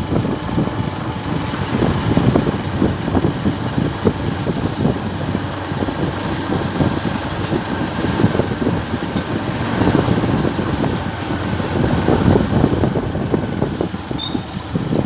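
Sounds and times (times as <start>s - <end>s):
road and engine noise: 0.0s - 15.0s
wind rushing over microphone: 0.0s - 15.0s.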